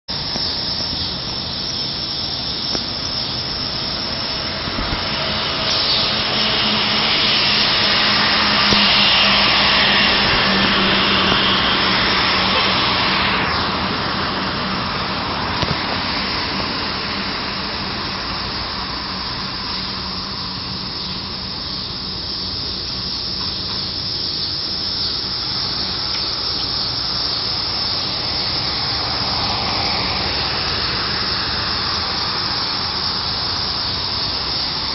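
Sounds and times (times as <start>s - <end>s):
helicopter turbine and rotor hiss: 0.1s - 34.9s
high whine sliding down: 0.1s - 34.9s.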